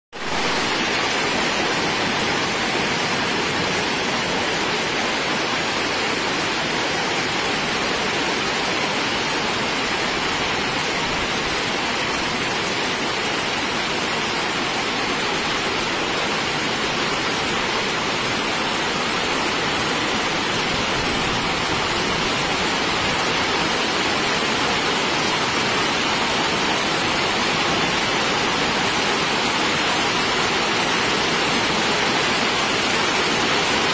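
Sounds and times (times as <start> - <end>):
heavy rain on rooftops: 0.1 - 33.9.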